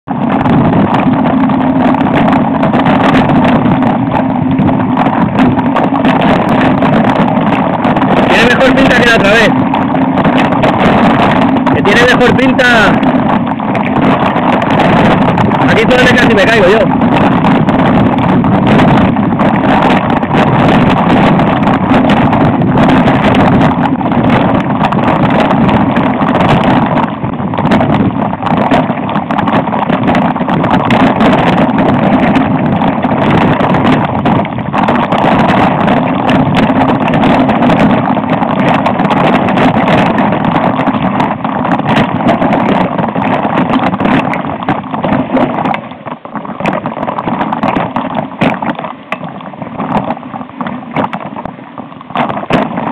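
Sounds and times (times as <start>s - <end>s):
bike rattling and knocking: 0.0s - 52.9s
wind rushing on microphone: 0.0s - 52.9s.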